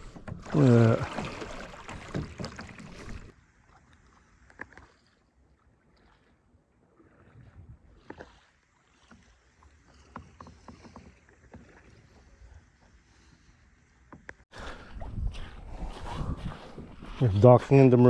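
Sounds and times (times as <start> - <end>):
faint water sounds: 0.0 - 18.0.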